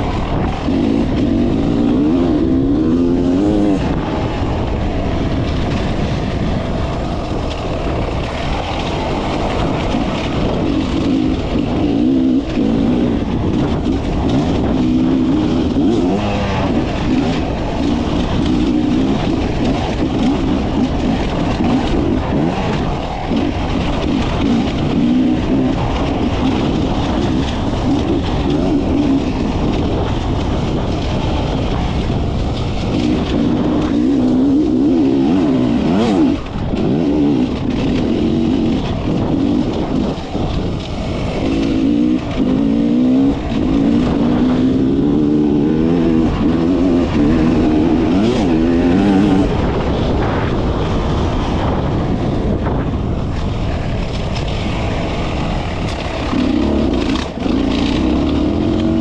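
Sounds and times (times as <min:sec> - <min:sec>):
motorcycle engine revving: 0:00.0 - 0:59.0
wind and tyre noise: 0:00.0 - 0:59.0.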